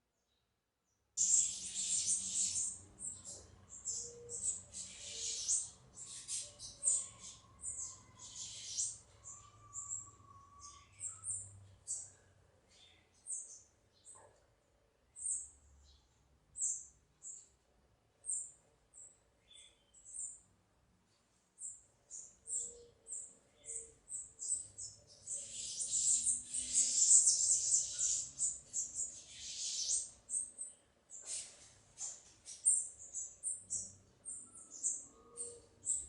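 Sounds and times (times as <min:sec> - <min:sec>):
small birds chirping: 0:01.2 - 0:36.0.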